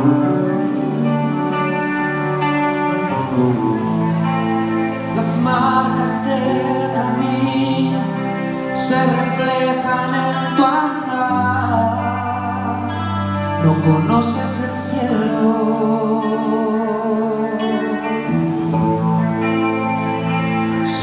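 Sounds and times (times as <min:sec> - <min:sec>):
bass guitar: 0:00.0 - 0:21.0
electric guitars: 0:00.0 - 0:21.0.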